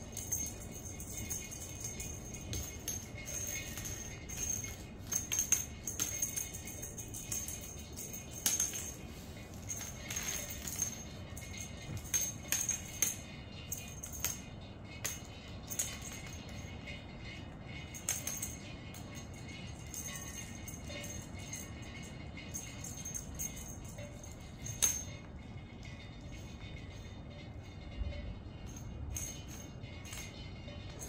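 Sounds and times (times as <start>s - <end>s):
small bell jingling: 0.0s - 31.0s.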